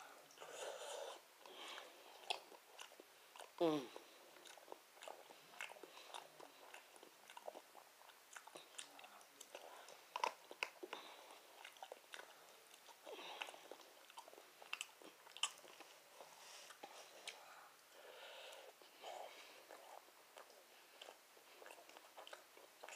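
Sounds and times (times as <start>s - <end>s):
chewing and mouth noises: 0.2s - 22.9s.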